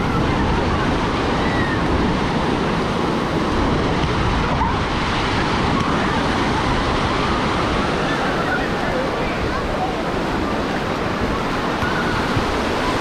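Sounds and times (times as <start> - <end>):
ocean surf washing onto beach: 0.0 - 13.0.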